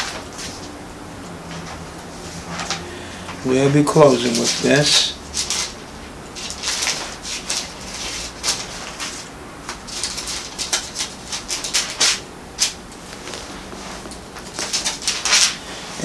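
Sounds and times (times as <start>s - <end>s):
book pages rustling: 0.0s - 0.8s, 1.4s - 15.7s.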